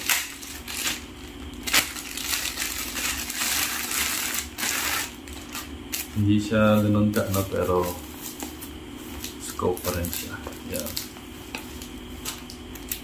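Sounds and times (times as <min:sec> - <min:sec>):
plastic bag crinkling: 0:00.0 - 0:08.4, 0:09.1 - 0:13.0
sharp plastic crackle: 0:00.0 - 0:08.5, 0:09.2 - 0:13.0.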